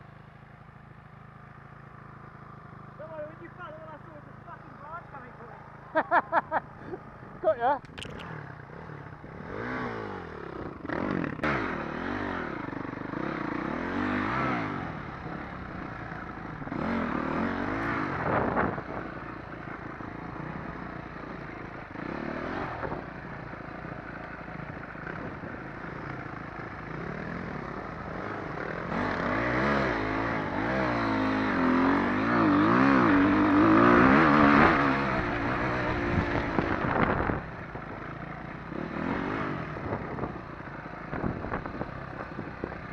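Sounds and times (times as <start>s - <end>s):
dirt bike engine revving: 2.4s - 42.9s.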